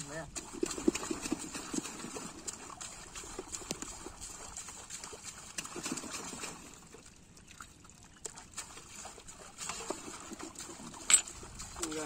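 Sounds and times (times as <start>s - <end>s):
water sloshing and dripping: 0.0s - 12.0s
small splashes: 0.3s - 12.0s.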